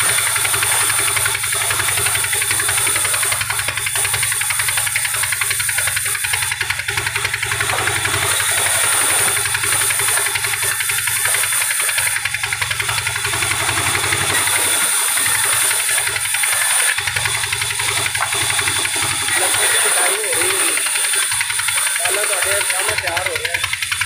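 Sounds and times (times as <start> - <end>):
band saw rasping through log: 0.0 - 24.0.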